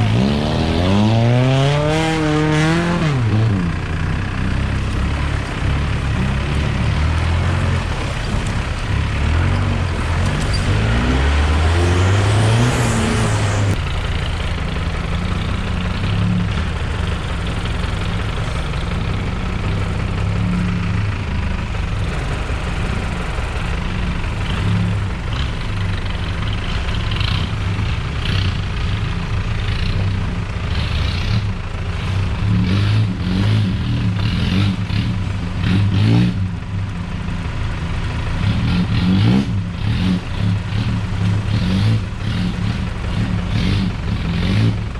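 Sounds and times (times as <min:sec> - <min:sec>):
vehicle engine revving: 0:00.0 - 0:44.9.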